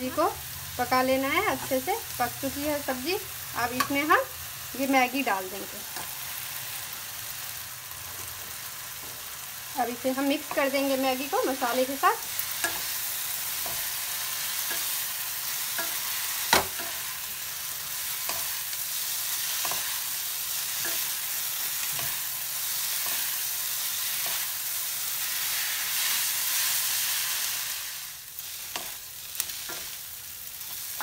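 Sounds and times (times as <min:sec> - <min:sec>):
noodles sizzling in a pan: 0:00.0 - 0:31.0.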